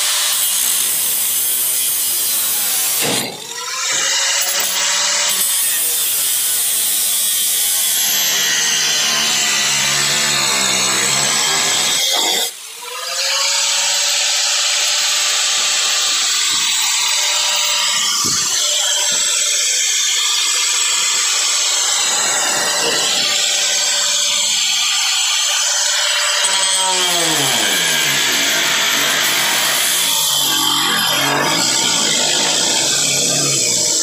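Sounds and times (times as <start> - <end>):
electric grinder cutting metal: 0.0 - 34.0.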